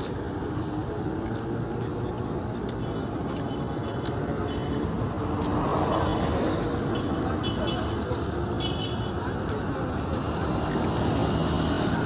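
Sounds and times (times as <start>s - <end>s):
vehicle road noise rumble: 0.0s - 12.0s.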